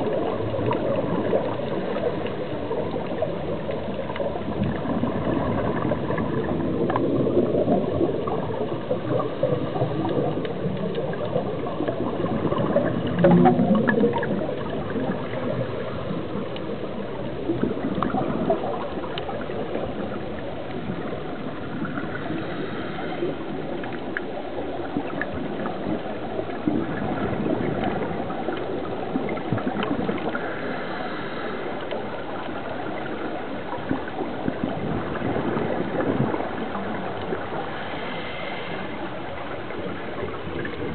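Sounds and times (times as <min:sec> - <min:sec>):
underwater bubbles gurgling: 0:00.0 - 0:40.9.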